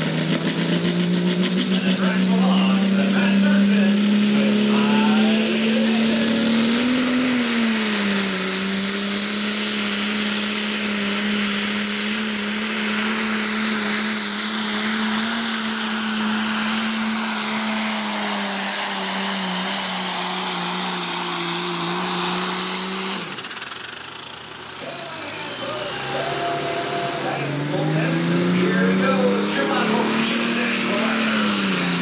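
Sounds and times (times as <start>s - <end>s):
tractor diesel engine at full load: 0.0s - 32.0s.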